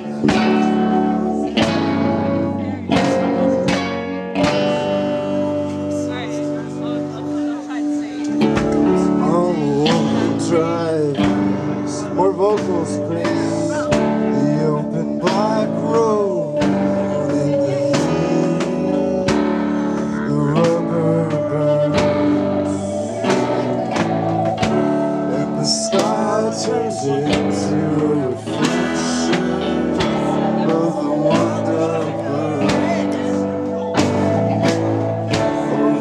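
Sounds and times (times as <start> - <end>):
man singing: 0.0 - 36.0
rock band playing live: 0.0 - 36.0.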